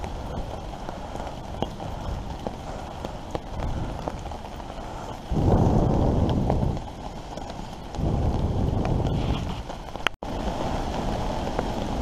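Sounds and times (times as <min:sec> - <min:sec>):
steady rain: 0:00.0 - 0:12.0
wind buffeting microphone: 0:00.0 - 0:12.0.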